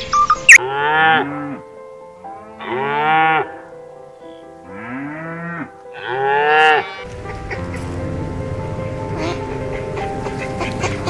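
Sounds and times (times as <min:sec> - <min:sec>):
cows mooing: 0:00.6 - 0:11.0.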